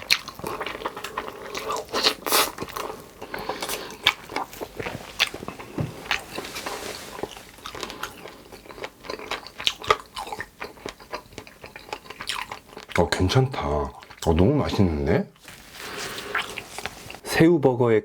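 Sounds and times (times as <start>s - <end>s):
wet mouth sounds: 0.0s - 15.0s, 15.8s - 17.2s
chewing crunchy fried food: 0.0s - 17.2s.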